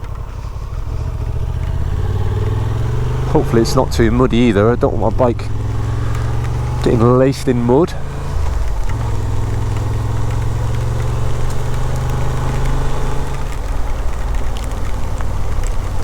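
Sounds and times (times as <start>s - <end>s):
motorcycle engine running slowly: 0.0s - 16.0s.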